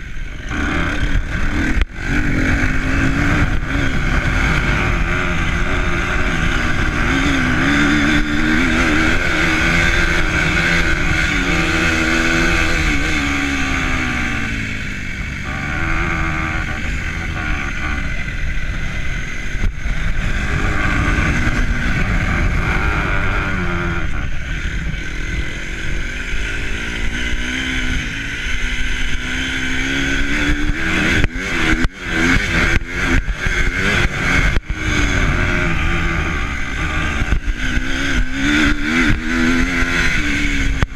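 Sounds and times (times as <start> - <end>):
vehicle engine: 0.0 - 40.9
wind rumble on microphone: 0.0 - 40.9.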